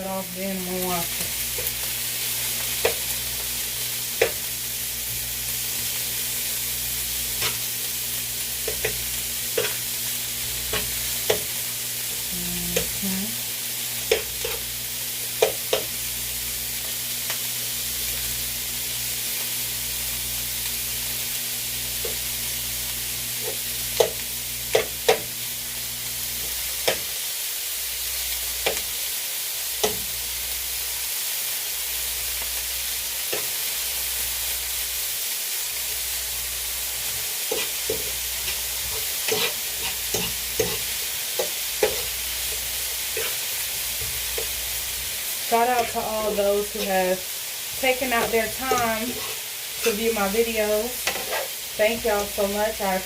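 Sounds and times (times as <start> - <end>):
food sizzling in skillet: 0.0 - 53.0.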